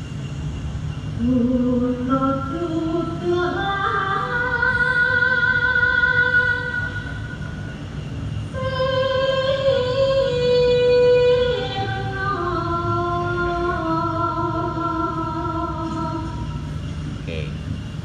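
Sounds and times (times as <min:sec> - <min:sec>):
slow music with woman singing: 0:01.1 - 0:07.8, 0:08.4 - 0:16.8.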